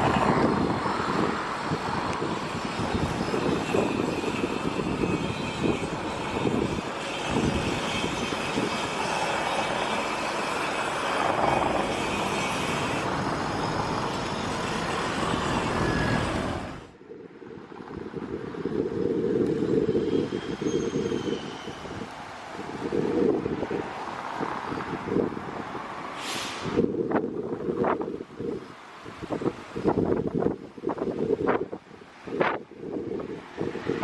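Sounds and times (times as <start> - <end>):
engine and traffic noise: 0.0 - 34.0.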